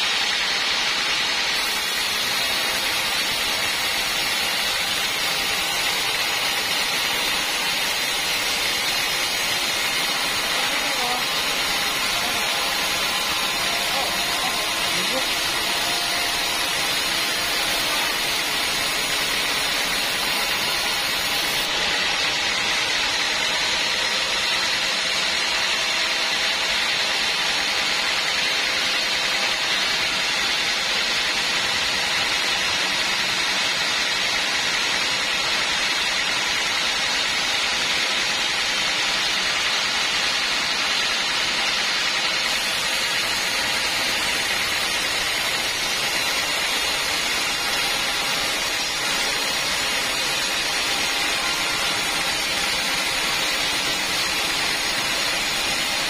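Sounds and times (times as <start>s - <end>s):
band saw running: 0.0s - 56.0s.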